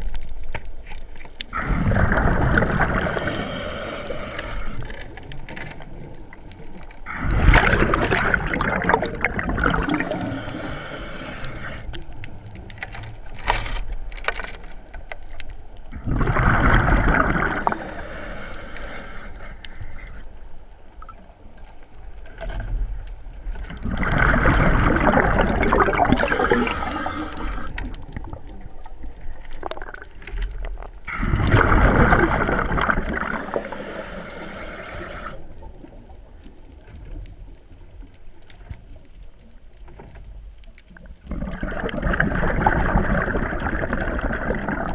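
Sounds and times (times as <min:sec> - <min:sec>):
exhaled bubbles gurgling underwater: 0:00.0 - 0:13.4, 0:14.9 - 0:44.9.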